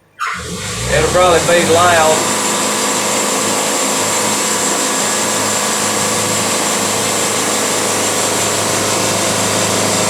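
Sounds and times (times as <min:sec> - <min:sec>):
band sawmill running: 0:00.4 - 0:10.0.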